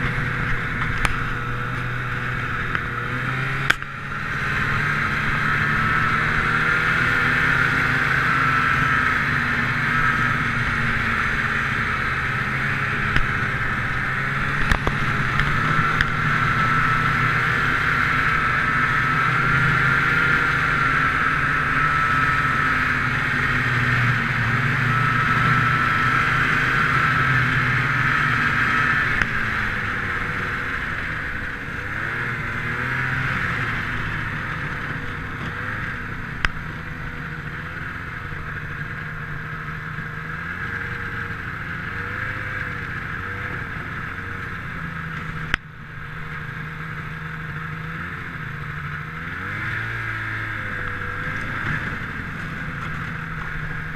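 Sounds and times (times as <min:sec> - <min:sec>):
snowmobile engine whining: 0:00.0 - 0:53.9.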